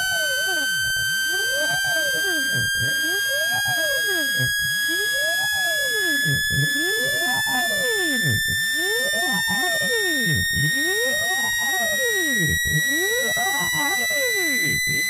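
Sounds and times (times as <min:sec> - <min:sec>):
electronic tone rising in pitch: 0:00.0 - 0:15.0.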